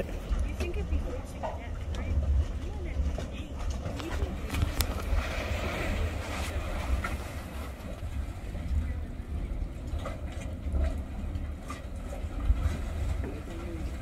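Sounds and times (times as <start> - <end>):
hot spring rumbling: 0.0 - 14.0.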